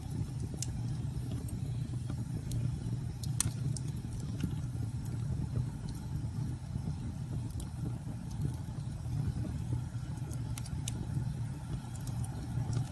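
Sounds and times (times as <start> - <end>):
fireplace crackling: 0.0 - 12.9.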